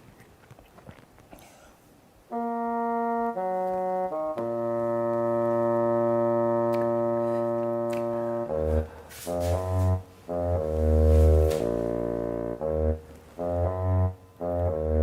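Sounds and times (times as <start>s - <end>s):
held instrumental chords: 2.3s - 15.0s.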